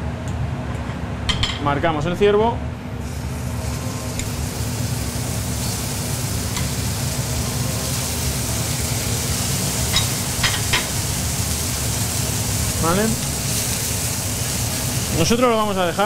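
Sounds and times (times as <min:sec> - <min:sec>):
steaks sizzling in a frying pan: 0:03.0 - 0:16.0.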